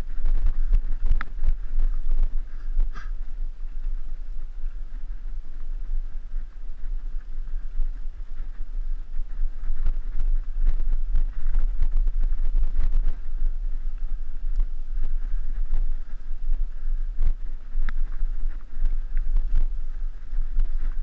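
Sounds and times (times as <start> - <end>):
wind buffeting the microphone: 0.0 - 21.0.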